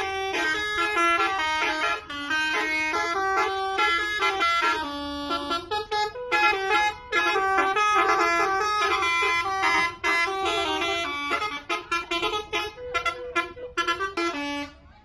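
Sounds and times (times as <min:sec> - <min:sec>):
air horns playing a jingle: 0:00.0 - 0:14.8.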